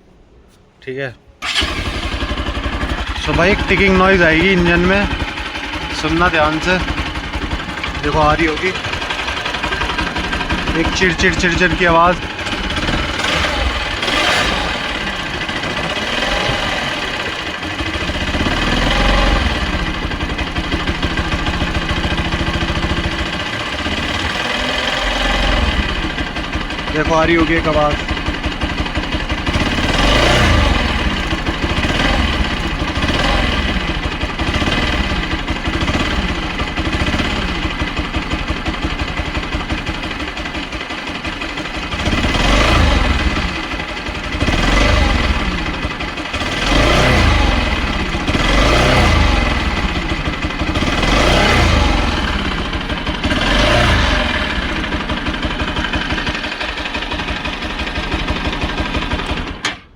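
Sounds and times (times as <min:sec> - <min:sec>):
engine ticking noise: 0:01.4 - 0:59.8
motorcycle engine idling and revving: 0:01.4 - 0:59.9.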